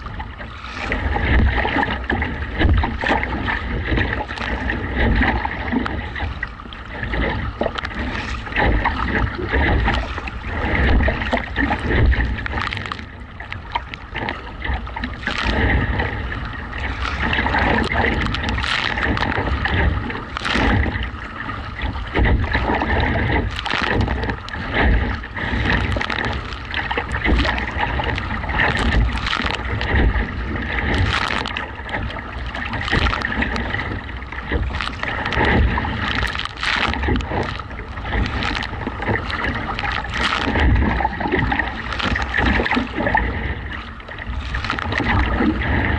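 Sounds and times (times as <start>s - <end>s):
kayak paddle strokes: 0.0s - 45.9s
waves slapping against hull: 0.0s - 45.9s.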